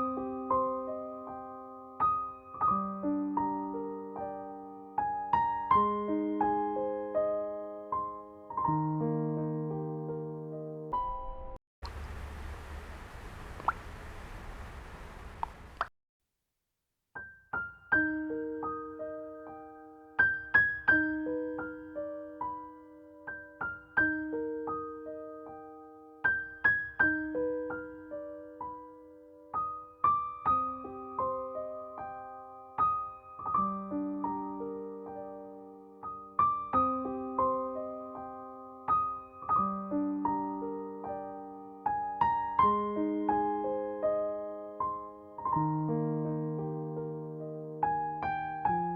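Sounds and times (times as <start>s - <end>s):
soft piano melody: 0.0s - 11.5s, 17.2s - 48.9s.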